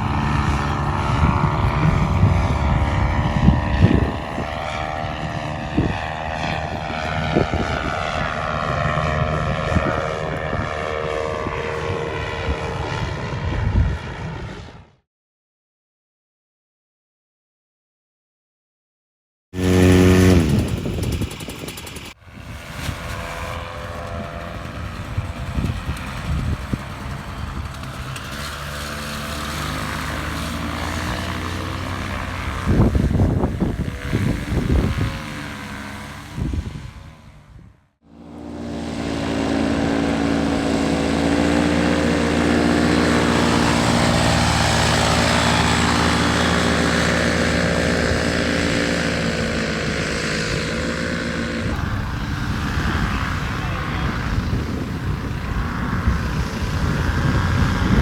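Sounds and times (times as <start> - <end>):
paramotor engine revving: 0.0 - 13.4, 19.6 - 58.0.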